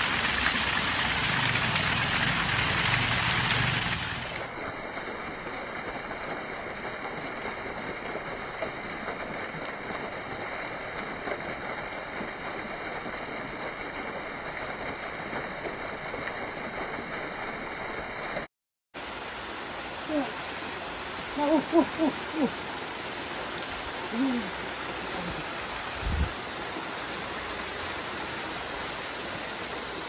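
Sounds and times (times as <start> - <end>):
waterfall rushing over rock: 0.0 - 18.1, 19.0 - 30.0.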